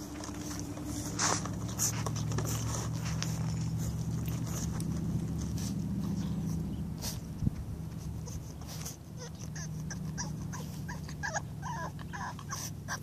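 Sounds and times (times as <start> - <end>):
low steady hum: 0.0 - 13.0
puppies yipping and whining: 0.0 - 13.0.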